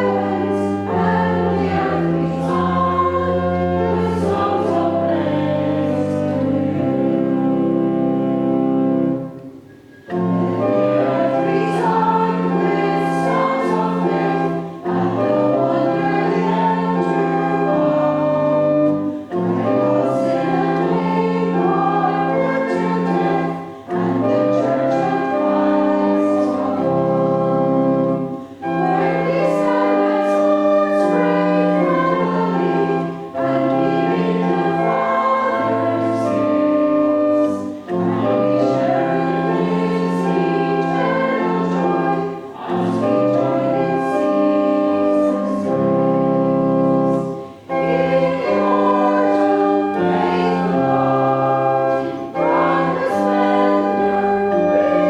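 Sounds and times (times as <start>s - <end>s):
congregation singing a hymn: 0.0s - 55.0s
instrumental accompaniment: 0.0s - 55.0s.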